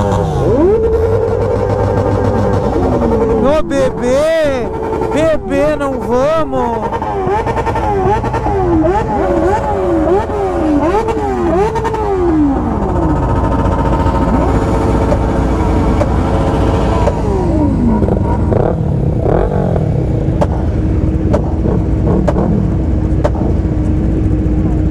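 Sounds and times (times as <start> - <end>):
low engine rumble: 0.0 - 24.9
motorcycle engines revving: 0.0 - 24.9.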